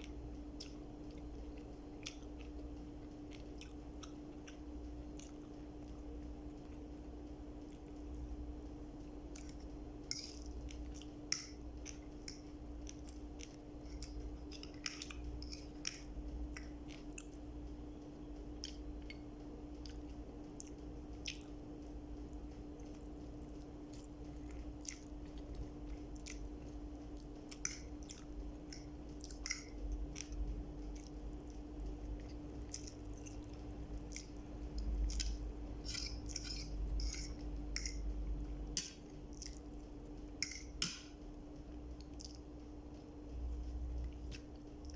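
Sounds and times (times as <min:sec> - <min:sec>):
person chewing: 0:00.0 - 0:17.8, 0:18.4 - 0:42.6, 0:44.0 - 0:44.9
faint steady hum: 0:00.0 - 0:44.9.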